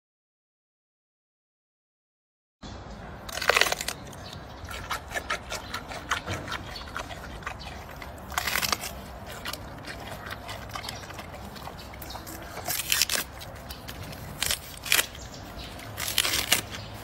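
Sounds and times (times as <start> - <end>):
panda chewing bamboo: 3.2 - 17.0.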